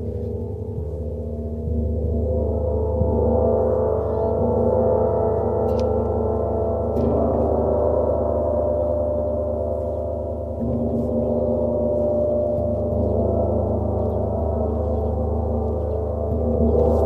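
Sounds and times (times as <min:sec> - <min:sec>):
gongs ringing: 0:00.0 - 0:17.0.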